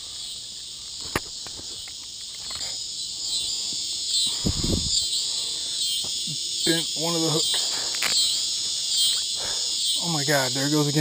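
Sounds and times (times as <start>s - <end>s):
cicada buzzing: 0.0s - 11.0s.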